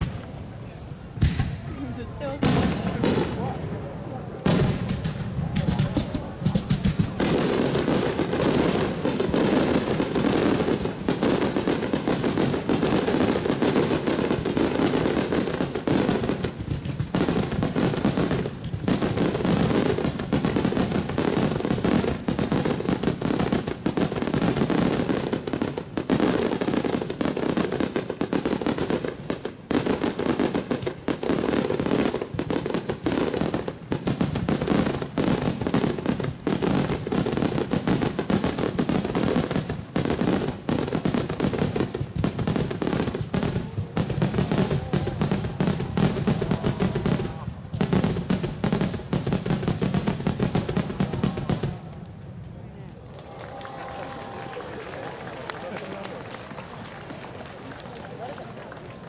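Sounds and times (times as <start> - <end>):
fireworks bursts and launches: 0.0 - 52.5.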